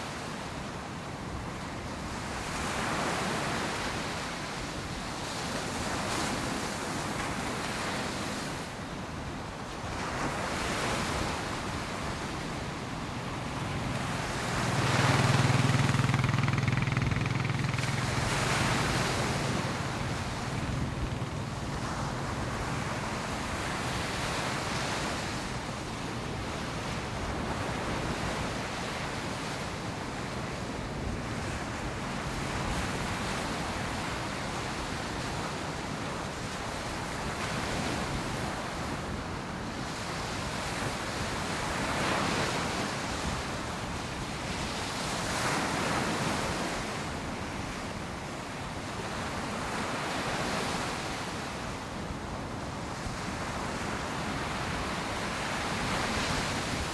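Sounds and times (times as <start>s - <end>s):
ocean waves breaking on beach: 0.0s - 56.9s.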